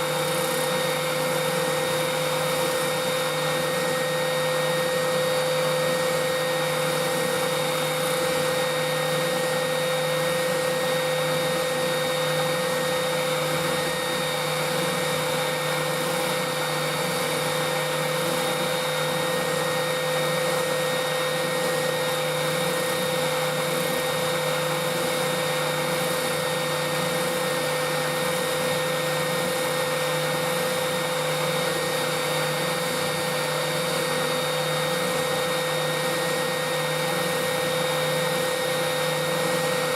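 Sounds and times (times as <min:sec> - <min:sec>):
electric sander running: 0:00.0 - 0:39.9.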